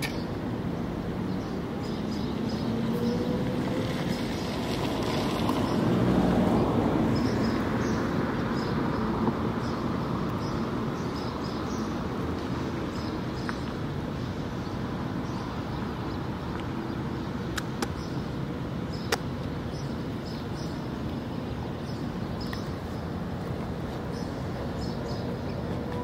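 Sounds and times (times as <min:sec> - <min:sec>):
distant traffic: 0:00.0 - 0:26.0.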